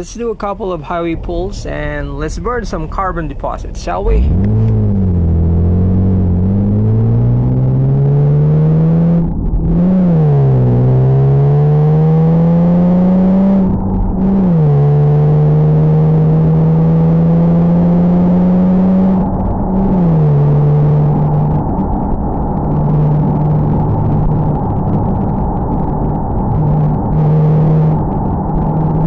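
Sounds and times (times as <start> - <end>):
car engine accelerating: 0.6 - 29.0.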